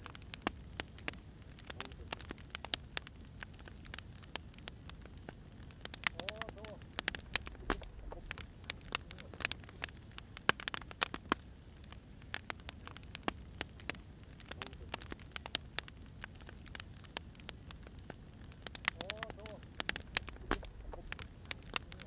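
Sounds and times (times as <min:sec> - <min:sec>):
firewood crackling and popping: 0:00.0 - 0:22.0
low rumble of fire: 0:00.0 - 0:22.0.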